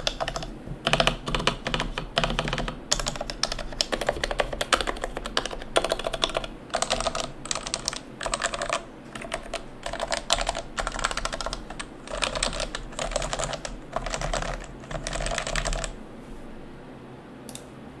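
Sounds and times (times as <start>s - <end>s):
mechanical keyboard typing: 0.0s - 16.0s
faint room hiss: 0.0s - 18.0s.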